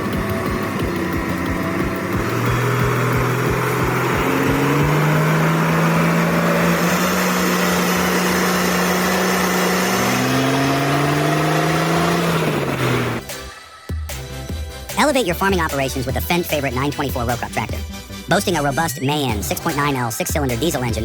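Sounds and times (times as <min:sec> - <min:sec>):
diesel truck engine revving: 0:00.0 - 0:21.0.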